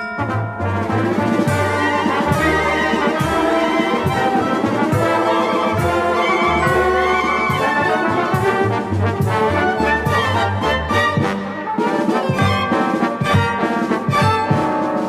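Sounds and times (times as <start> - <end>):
orchestral music with brass: 0.0 - 15.0.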